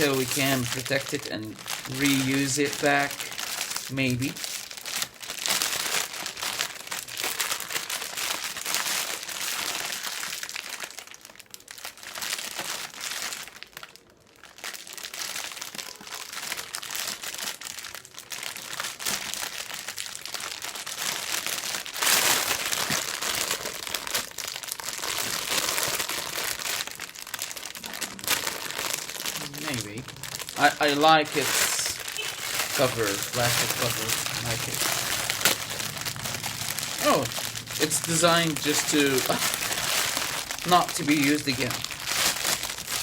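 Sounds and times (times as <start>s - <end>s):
plastic packaging crinkling: 0.0s - 43.0s.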